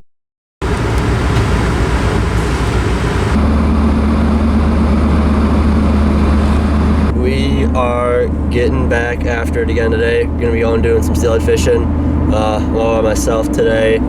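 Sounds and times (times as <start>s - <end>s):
low engine hum: 0.6s - 14.0s
road noise inside moving car: 0.6s - 14.0s.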